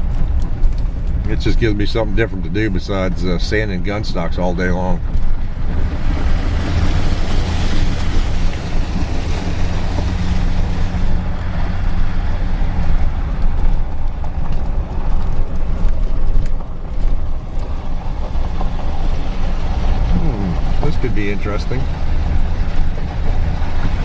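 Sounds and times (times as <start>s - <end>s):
vehicle knocks and rattles: 0.0s - 20.1s
vehicle engine rumble: 0.0s - 24.0s.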